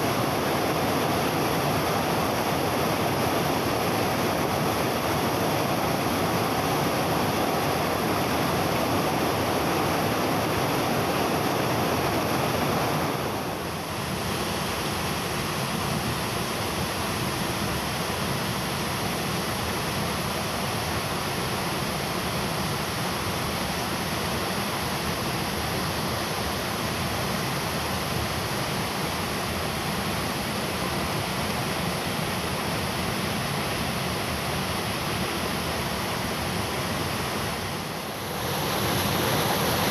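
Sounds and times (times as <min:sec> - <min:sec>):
waterfall rushing: 0:00.0 - 0:19.1, 0:20.5 - 0:39.9.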